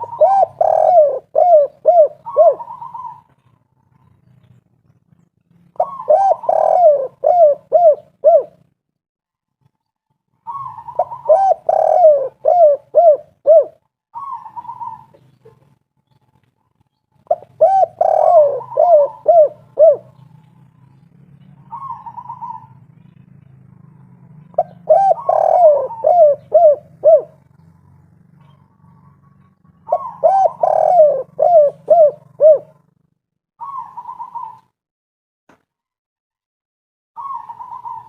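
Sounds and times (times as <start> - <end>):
dove cooing: 0.0 - 4.5, 5.7 - 8.7, 10.4 - 15.8, 17.2 - 34.8, 37.2 - 38.0.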